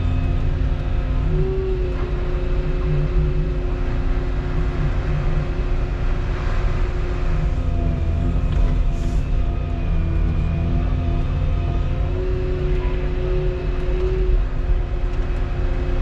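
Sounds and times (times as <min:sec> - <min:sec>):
excavator diesel engine rumble: 0:00.0 - 0:16.0
steady machine whine: 0:00.0 - 0:16.0.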